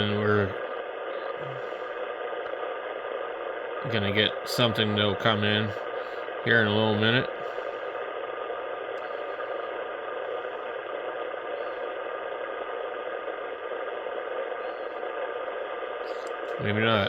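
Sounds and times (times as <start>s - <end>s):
faint steady tones: 0.0s - 17.0s
radio static hiss: 0.0s - 17.0s.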